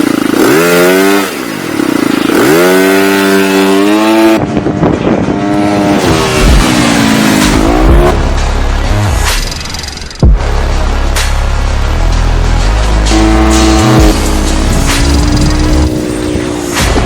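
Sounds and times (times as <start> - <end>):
scooter engine revving: 0.0 - 10.4, 12.7 - 17.0.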